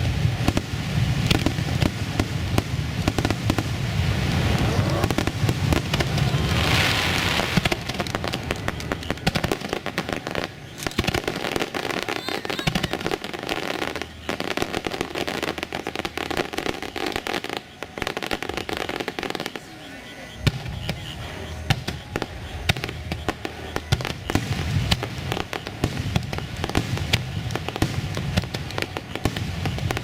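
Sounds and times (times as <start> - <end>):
fireworks crackling: 0.0 - 30.0
fireworks rumbling burst: 0.0 - 30.0.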